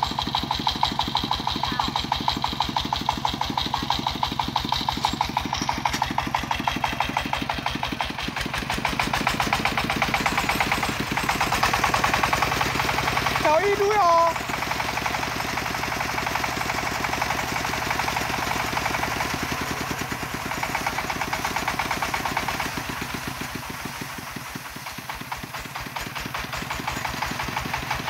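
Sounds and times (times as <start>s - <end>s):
diesel engine chugging: 0.0s - 28.0s.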